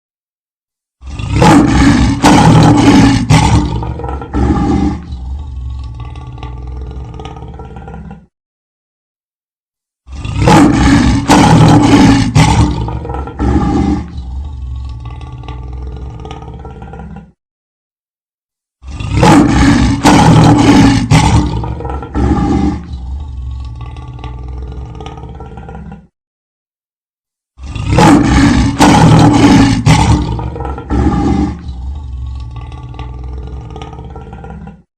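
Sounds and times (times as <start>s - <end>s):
lion roaring: 1.0s - 8.3s, 10.1s - 17.4s, 18.8s - 26.1s, 27.6s - 34.9s
low rumbling growl: 1.0s - 8.3s, 10.1s - 17.4s, 18.8s - 26.1s, 27.6s - 34.9s.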